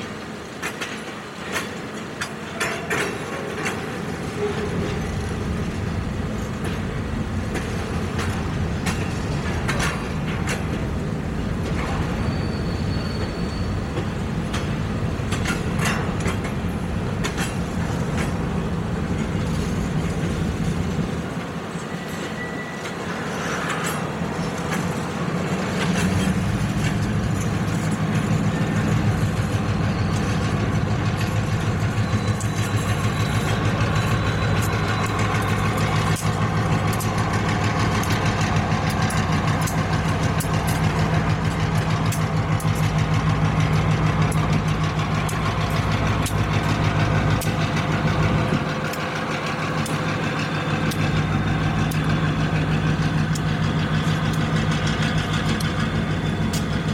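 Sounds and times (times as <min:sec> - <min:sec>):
diesel locomotive engine drone: 0:00.0 - 0:56.9
freight train wheels rumbling: 0:00.0 - 0:56.9.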